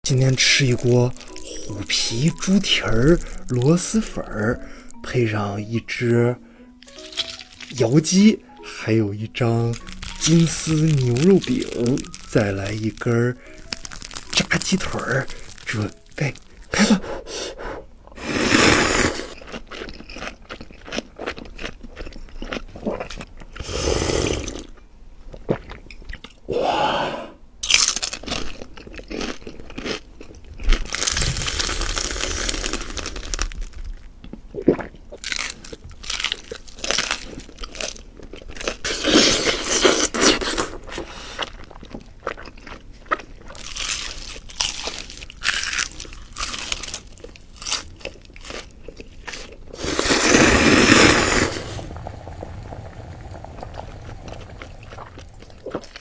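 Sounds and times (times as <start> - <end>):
person crunching and chewing food: 0.1 - 26.5, 27.6 - 56.0.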